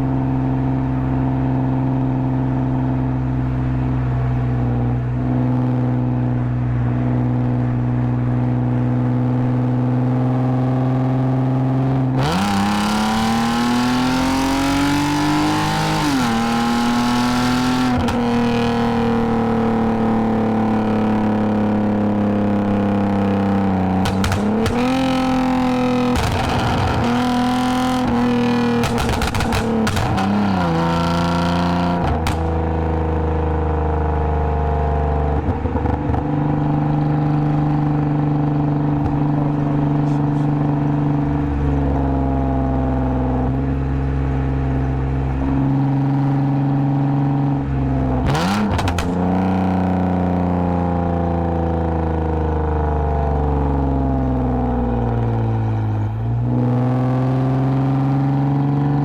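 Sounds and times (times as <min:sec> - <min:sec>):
car engine cruising: 0:00.0 - 0:59.0.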